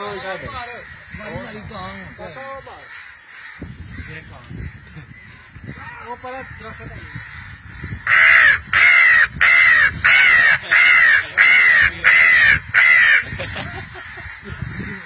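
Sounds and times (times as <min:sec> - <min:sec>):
crow cawing: 0:00.0 - 0:15.0.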